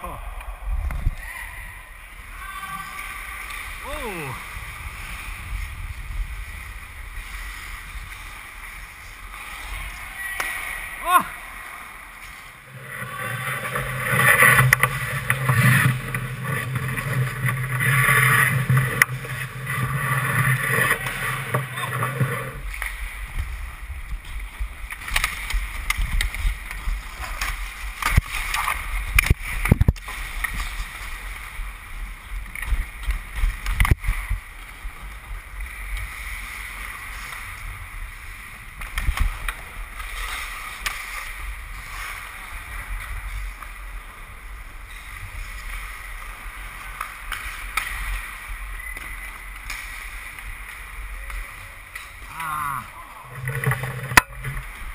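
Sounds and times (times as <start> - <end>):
skating rumble: 0.0 - 54.9
hockey sticks and puck clacking: 7.8 - 10.8, 11.6 - 37.8, 38.6 - 54.9.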